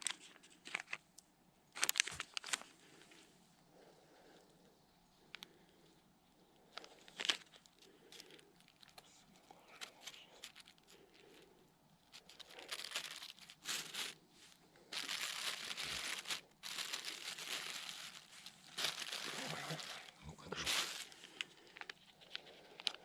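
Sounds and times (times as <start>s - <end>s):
crinkling and rustling: 0.0s - 4.5s, 5.2s - 23.0s.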